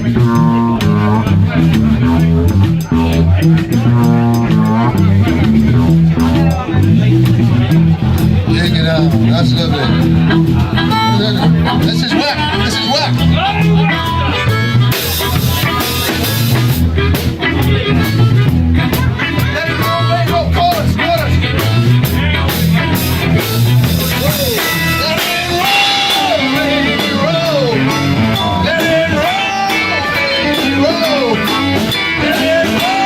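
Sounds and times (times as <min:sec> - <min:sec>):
bass guitar: 0:00.0 - 0:33.0
drum kit beat: 0:00.0 - 0:33.0
lead guitar line bending in pitch: 0:00.0 - 0:33.0.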